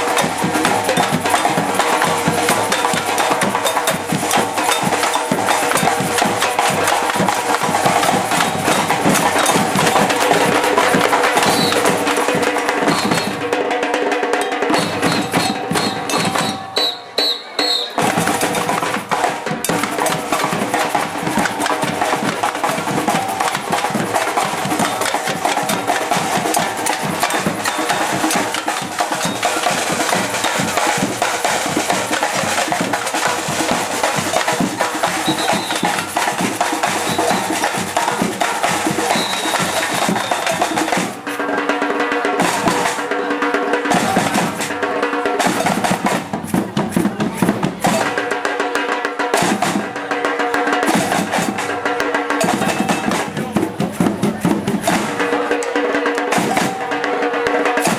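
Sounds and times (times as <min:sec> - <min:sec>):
percussion ensemble drumming: 0:00.0 - 0:57.9.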